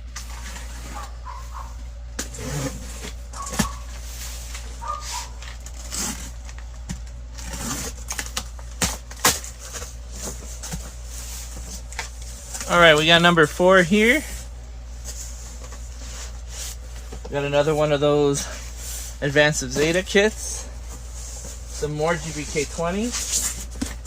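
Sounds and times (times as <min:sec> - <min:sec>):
cardboard packaging rustling: 0:00.0 - 0:24.0
steady low hum: 0:00.0 - 0:24.0.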